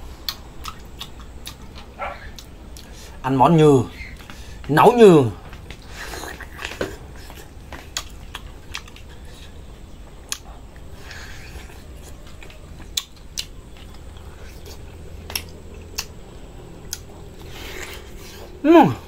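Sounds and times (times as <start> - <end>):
person chewing meat: 0.1 - 3.2, 5.4 - 19.0.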